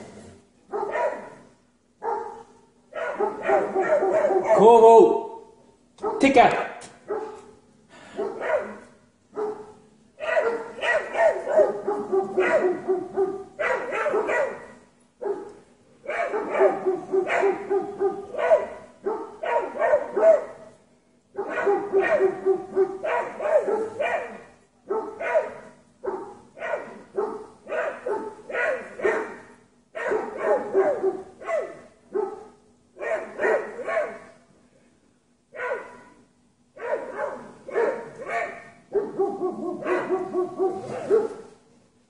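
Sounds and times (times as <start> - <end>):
dogs barking rapidly: 0.7 - 4.8, 6.0 - 34.4, 35.5 - 41.6.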